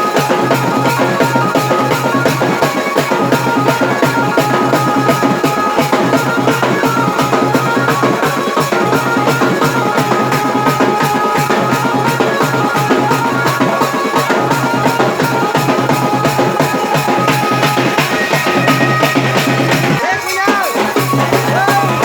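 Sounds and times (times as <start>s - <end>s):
loud dance music: 0.0s - 22.0s.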